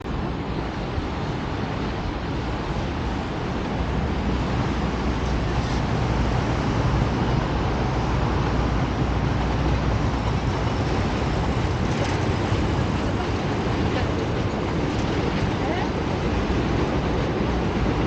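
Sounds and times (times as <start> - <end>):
city traffic: 0.0 - 18.0
wind rumble on microphone: 0.0 - 18.0.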